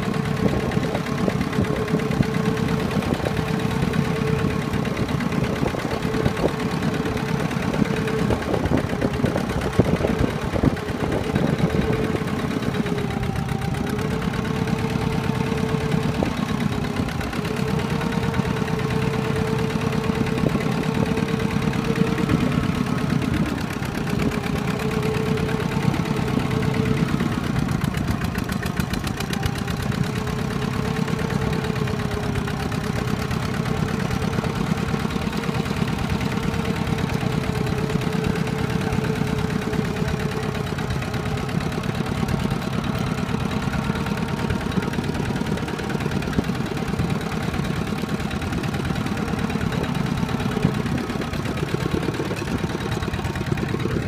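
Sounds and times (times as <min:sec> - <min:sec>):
diesel engine putter: 0:00.0 - 0:54.0.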